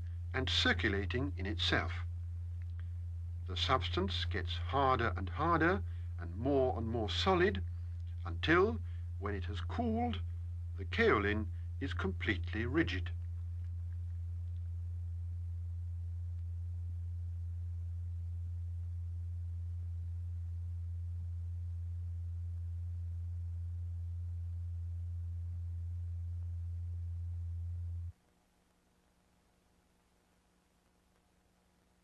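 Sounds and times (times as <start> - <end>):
low steady pure tone: 0.0 - 32.0.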